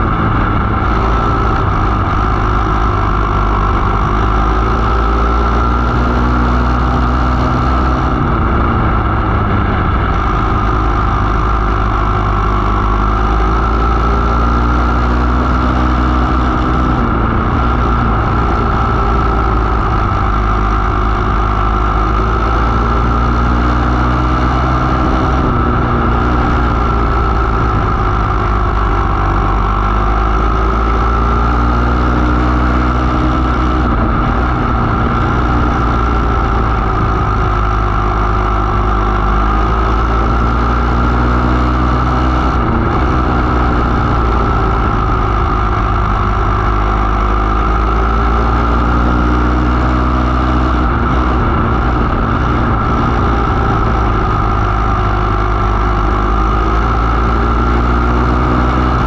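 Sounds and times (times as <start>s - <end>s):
racing car engine: 0.0s - 59.0s.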